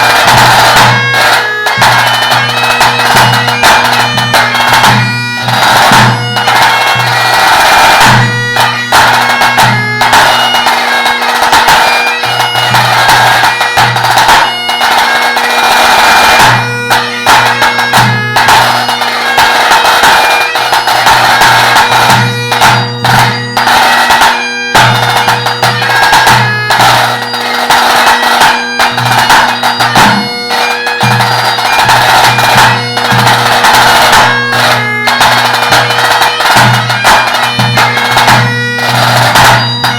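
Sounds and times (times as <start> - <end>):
bagpipe playing a tune: 0.0 - 39.9.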